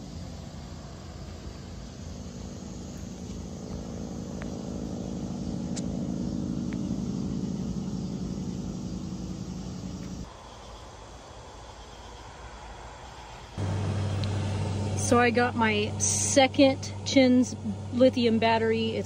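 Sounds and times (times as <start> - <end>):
vehicle engine humming: 0.0 - 11.1, 11.7 - 19.0
road noise: 0.0 - 19.0.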